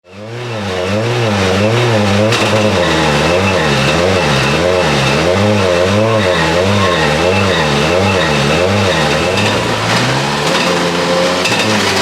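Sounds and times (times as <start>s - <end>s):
rally car engine idling: 0.1s - 12.0s
sharp engine crack: 1.6s - 12.0s.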